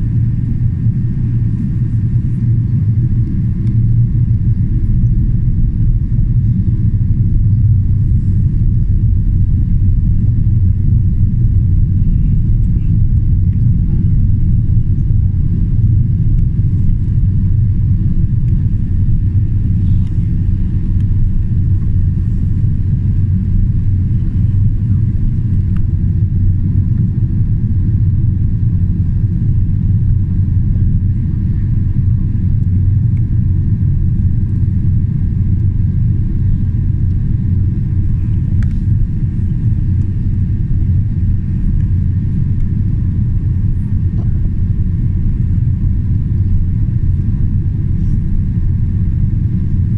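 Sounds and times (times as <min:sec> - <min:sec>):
airplane cabin engine drone: 0:00.0 - 0:49.9.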